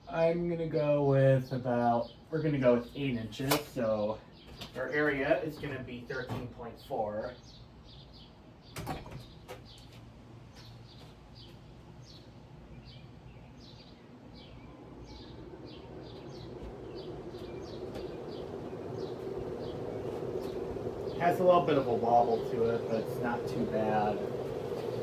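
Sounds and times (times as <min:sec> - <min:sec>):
ceiling fan humming: 0:00.0 - 0:25.0
bird chirping: 0:04.2 - 0:25.0.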